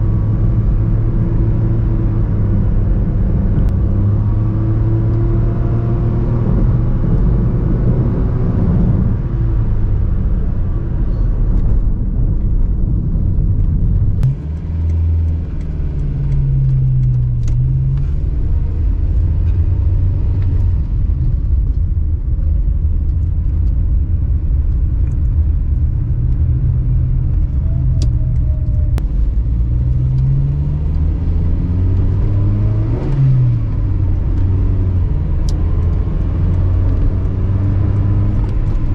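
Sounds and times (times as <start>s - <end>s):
car engine droning while cruising: 0.0s - 38.9s.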